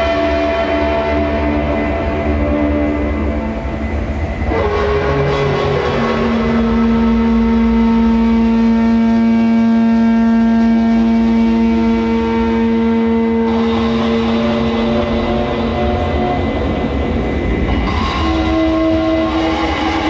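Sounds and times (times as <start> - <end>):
electronic drone: 0.0 - 20.0.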